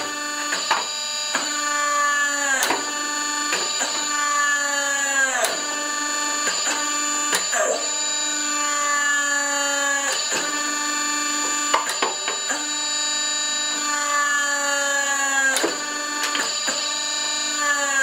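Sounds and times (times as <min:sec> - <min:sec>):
hydraulic pump whining: 0:00.0 - 0:18.0.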